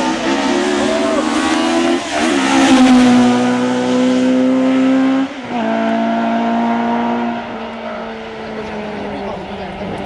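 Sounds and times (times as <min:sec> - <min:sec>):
racing car engine at high revs: 0:00.0 - 0:10.0.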